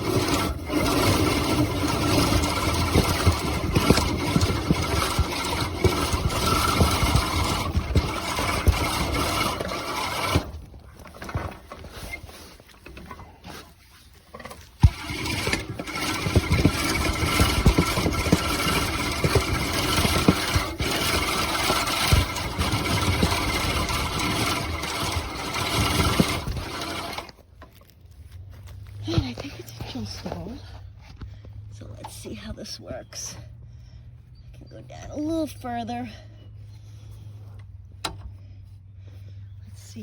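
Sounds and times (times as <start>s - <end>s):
push reel mower whirring and clattering: 0.0s - 30.8s, 31.6s - 40.0s.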